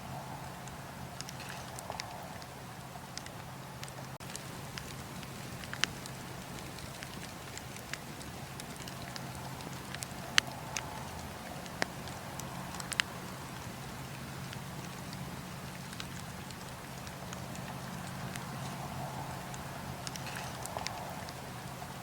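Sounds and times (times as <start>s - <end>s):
wood crackling in campfire: 0.0s - 22.0s.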